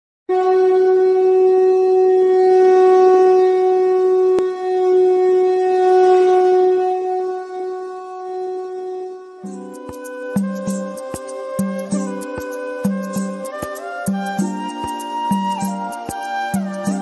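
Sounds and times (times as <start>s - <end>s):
conch shell blown: 0.3s - 17.0s.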